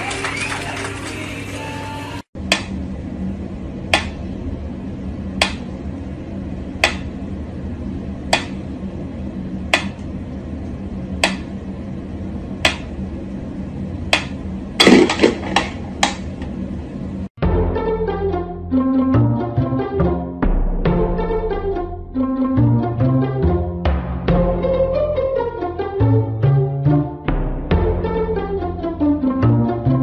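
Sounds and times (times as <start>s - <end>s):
low hum: 2.2s - 30.0s.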